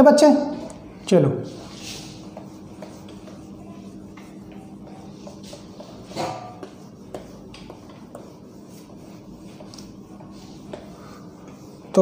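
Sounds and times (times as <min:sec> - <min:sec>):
cloth wiping a whiteboard: 0:01.4 - 0:12.0.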